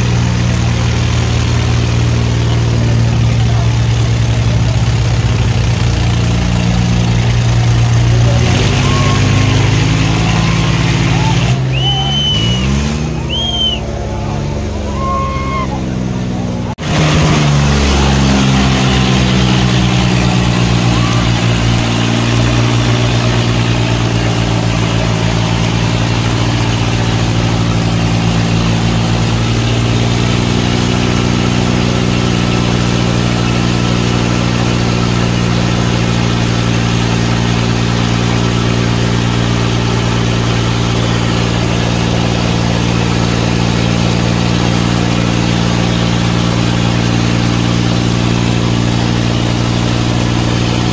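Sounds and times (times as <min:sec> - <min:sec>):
tractor diesel engines revving: 0:00.0 - 0:50.9.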